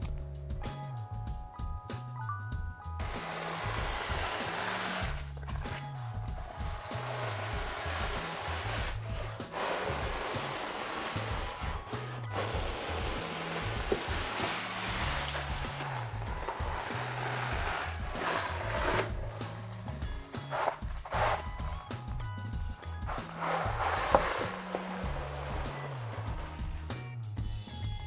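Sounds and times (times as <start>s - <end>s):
background music with bass line: 0.0s - 28.0s
wallpaper peeling off wall: 3.0s - 21.9s, 23.0s - 26.9s.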